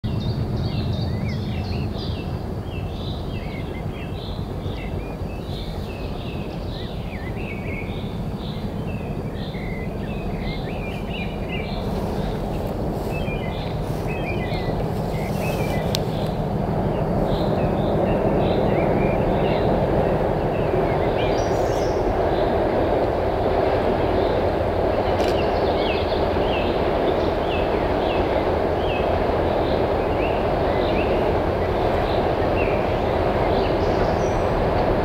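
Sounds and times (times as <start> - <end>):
distant train engine rumble: 0.0 - 35.0
small birds chirping: 0.0 - 35.0.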